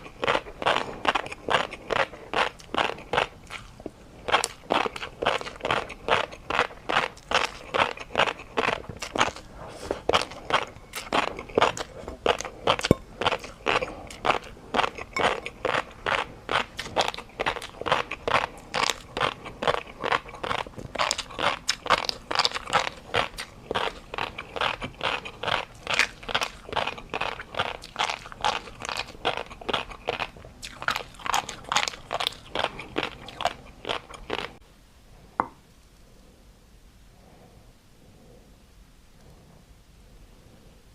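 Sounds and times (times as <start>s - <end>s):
chewing crunchy food: 0.0s - 34.6s.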